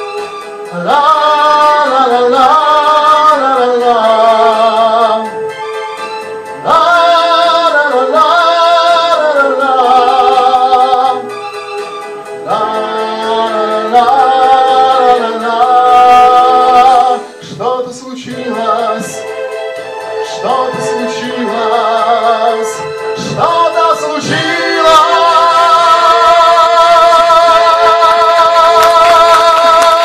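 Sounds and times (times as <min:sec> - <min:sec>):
karaoke backing track: 0:00.0 - 0:30.0.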